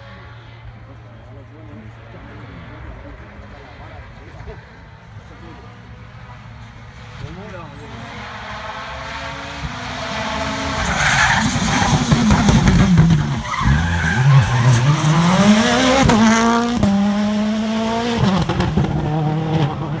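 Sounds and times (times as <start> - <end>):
rally car engine revving: 1.7 - 20.0.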